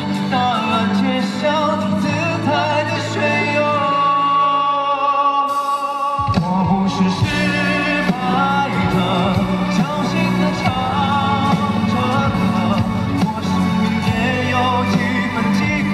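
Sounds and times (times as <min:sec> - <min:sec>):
band accompaniment: 0:00.0 - 0:15.9
man singing into microphone: 0:00.0 - 0:15.9.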